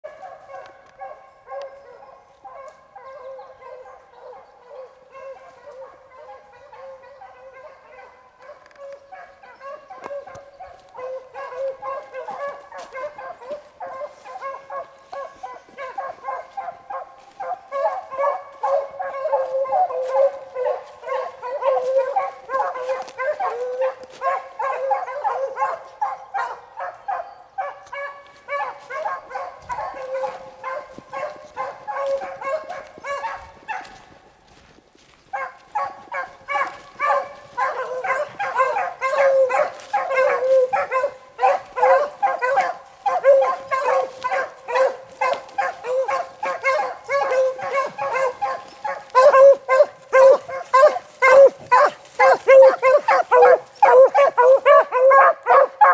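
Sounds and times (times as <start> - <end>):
pack of beagles baying: 0.0 - 55.9.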